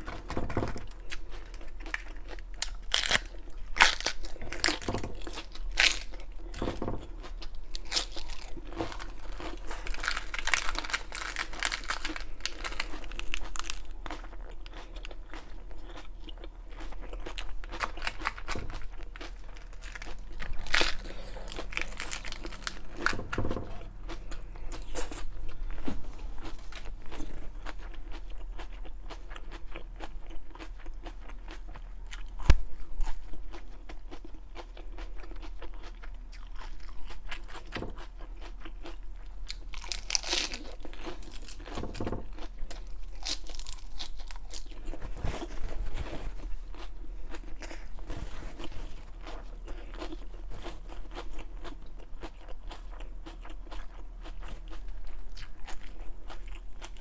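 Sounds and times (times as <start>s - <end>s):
chewing crisp lettuce: 0.0s - 57.0s.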